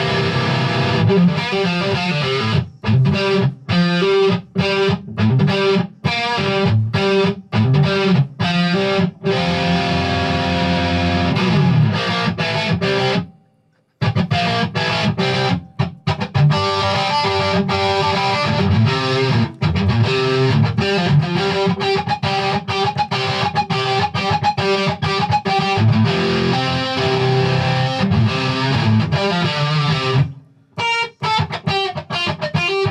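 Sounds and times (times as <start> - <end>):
distorted electric guitar lead: 0.0 - 32.9.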